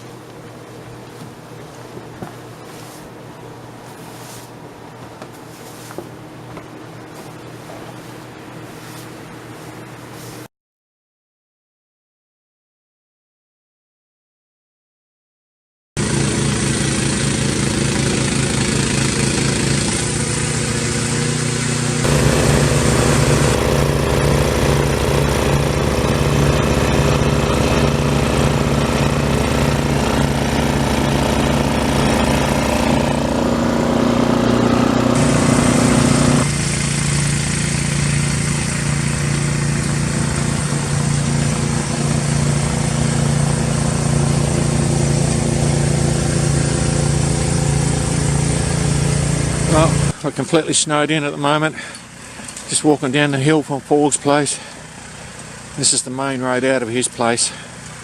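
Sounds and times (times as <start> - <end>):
snow blower engine running: 0.0 - 10.5, 16.0 - 50.2, 51.7 - 56.1.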